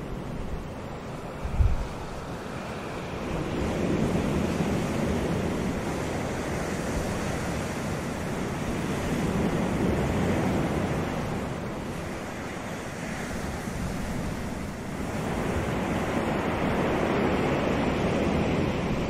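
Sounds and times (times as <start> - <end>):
surf breaking on beach: 0.0 - 19.0.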